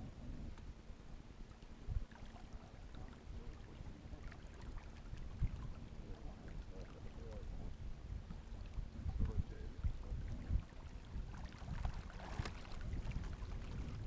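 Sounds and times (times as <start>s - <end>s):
water sloshing around hull: 0.0s - 14.0s
wind rumble on microphone: 0.0s - 14.0s.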